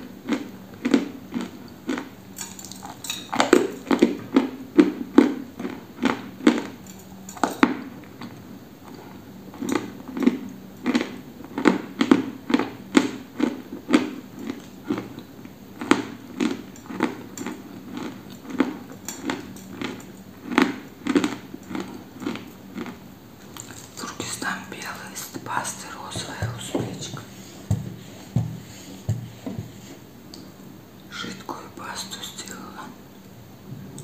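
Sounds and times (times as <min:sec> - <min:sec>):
crunchy chewing: 0:00.0 - 0:30.6.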